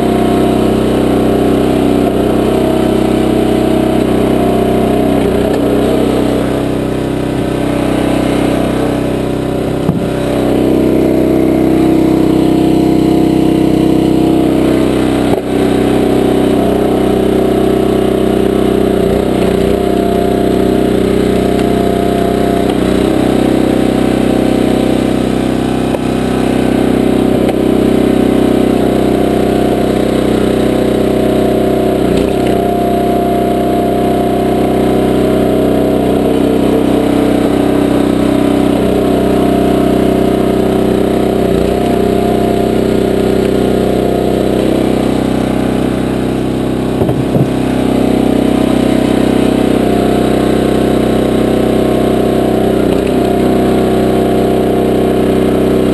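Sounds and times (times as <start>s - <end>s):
small gasoline engine running: 0.0s - 55.9s.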